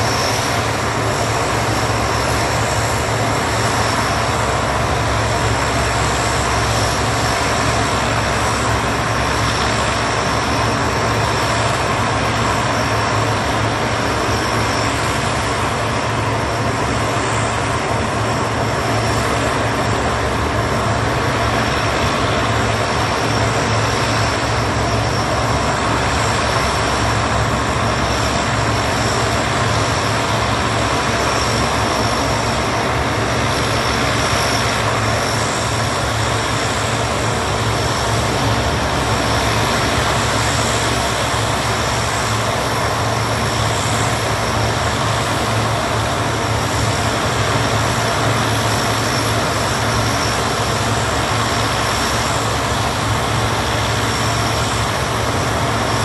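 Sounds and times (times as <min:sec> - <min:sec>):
high turbine whine: 0:00.0 - 0:56.0
turboprop engines idling: 0:00.0 - 0:56.0.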